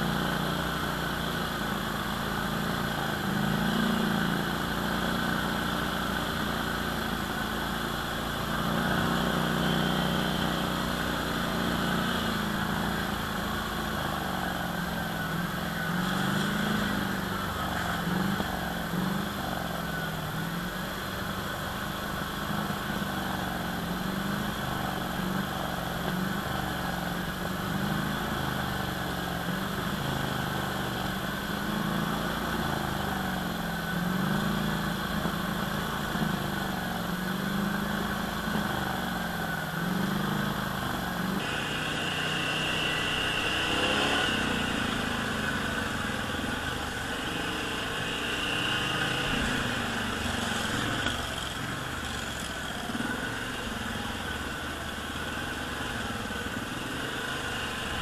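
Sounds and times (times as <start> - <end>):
atv engine running: 0.0 - 58.0
high engine whine: 0.0 - 58.0.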